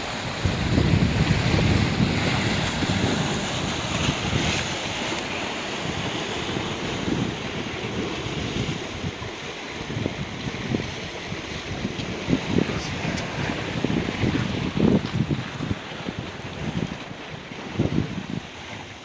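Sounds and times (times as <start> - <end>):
waves washing on rocky beach: 0.0 - 19.0
wind buffeting microphone: 0.0 - 19.0.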